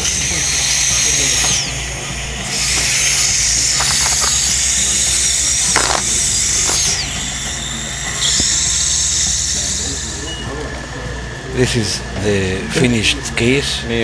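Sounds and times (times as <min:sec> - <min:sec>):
dental drill whining: 0:00.0 - 0:13.6.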